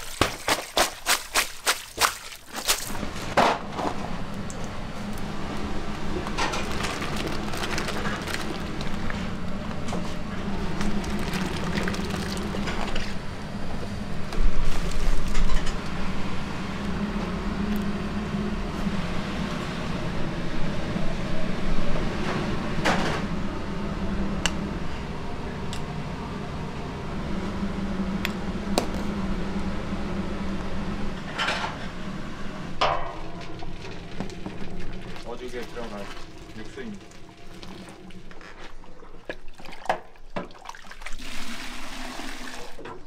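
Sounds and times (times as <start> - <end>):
steady low hum: 0.0 - 40.2.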